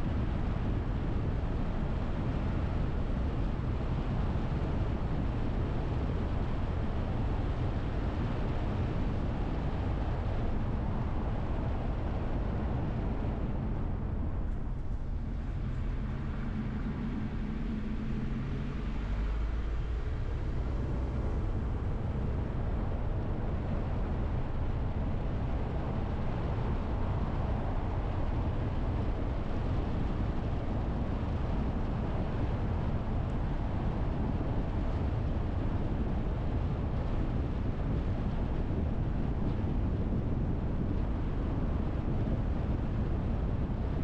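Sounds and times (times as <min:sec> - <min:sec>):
road and wind noise: 0:00.0 - 0:44.0.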